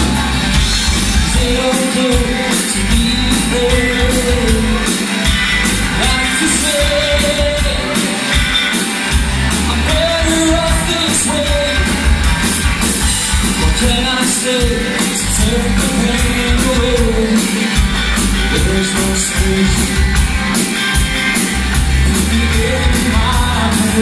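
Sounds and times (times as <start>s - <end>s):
bass guitar: 0.0s - 24.0s
drums with cymbal hits: 0.0s - 24.0s
electric guitars: 0.0s - 24.0s.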